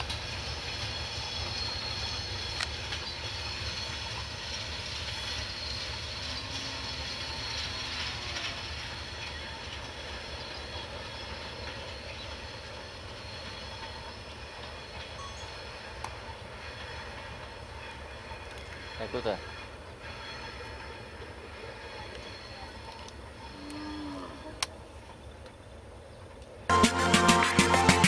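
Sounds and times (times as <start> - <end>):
train wheels rumbling on track: 0.0 - 28.0
wheels squealing: 0.1 - 24.5.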